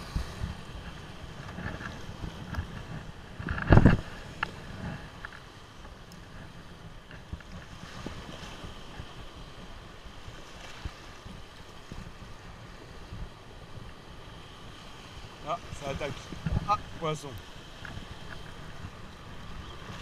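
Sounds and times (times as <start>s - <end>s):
small waves breaking: 0.0s - 20.0s
wind buffeting the microphone: 0.0s - 20.0s.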